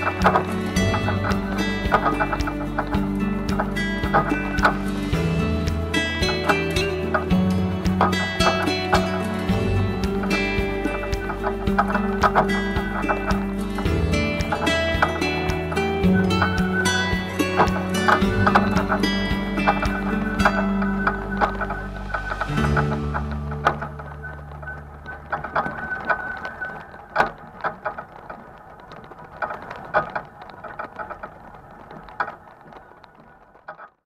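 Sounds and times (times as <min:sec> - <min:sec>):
dreamy guitar music with beat: 0:00.0 - 0:28.0
faint steady background noise: 0:00.0 - 0:34.0.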